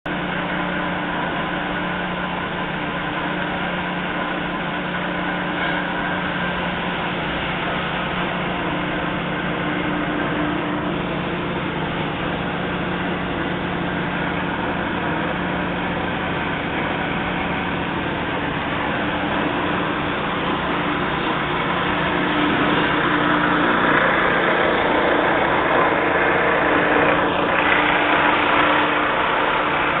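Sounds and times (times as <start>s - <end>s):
car wash mechanical hum and hiss: 0.1s - 30.0s.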